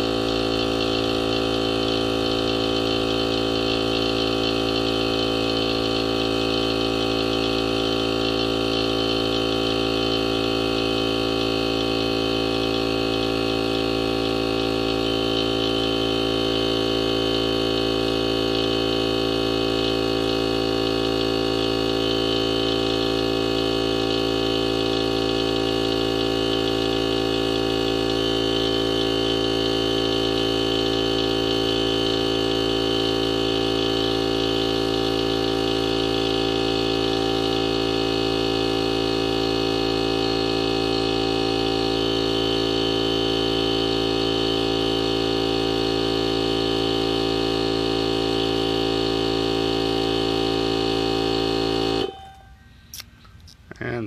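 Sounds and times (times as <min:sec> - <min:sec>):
air compressor humming: 0:00.0 - 0:54.0.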